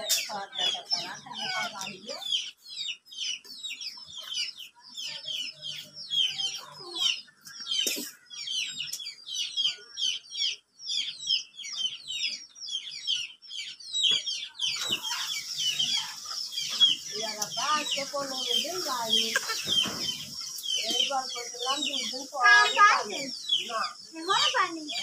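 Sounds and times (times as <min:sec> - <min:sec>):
birds chirping rapidly: 0:00.0 - 0:25.0.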